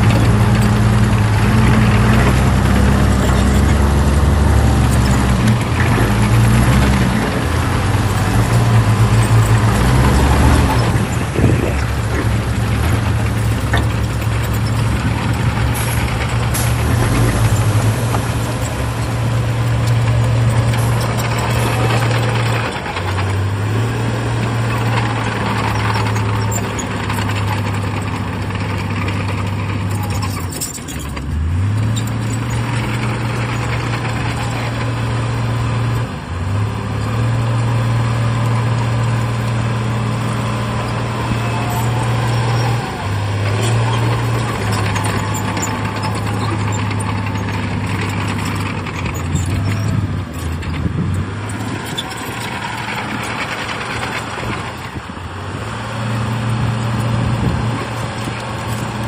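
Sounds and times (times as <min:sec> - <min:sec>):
heavy diesel engine under load: 0:00.0 - 0:59.0.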